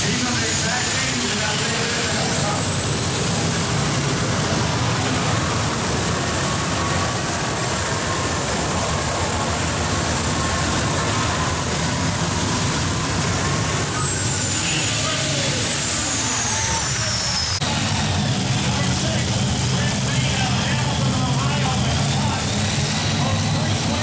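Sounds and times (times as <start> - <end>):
high engine whine: 0.0 - 24.0
tractor engine running flat out: 0.0 - 24.0.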